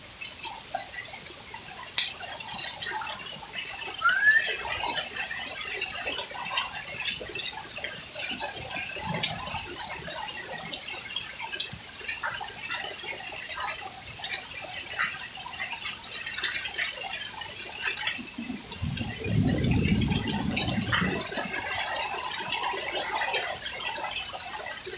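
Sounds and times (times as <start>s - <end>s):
hail and rain pelting hard surfaces: 2.0s - 24.9s.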